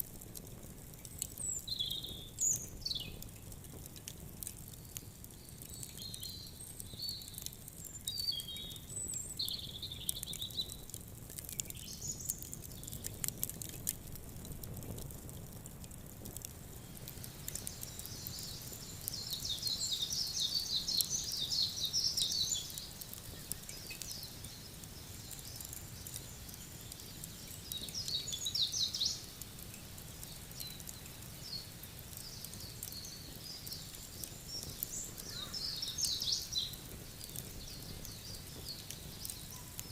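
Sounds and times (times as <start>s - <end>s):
wood fire crackling: 0.0s - 39.9s
small birds twittering: 1.1s - 3.4s, 4.4s - 13.8s, 16.8s - 39.9s.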